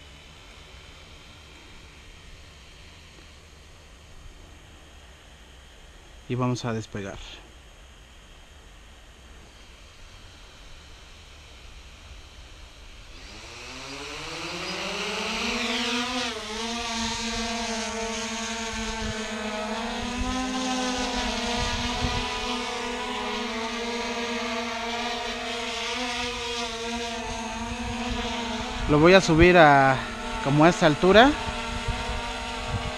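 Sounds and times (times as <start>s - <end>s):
quadcopter propeller buzz: 0.0s - 4.5s, 9.3s - 32.9s.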